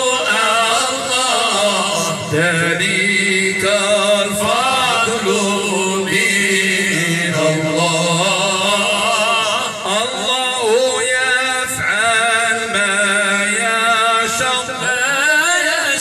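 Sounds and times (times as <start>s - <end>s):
low held drone tone: 0.0s - 15.8s
man chanting into microphone: 0.0s - 16.0s.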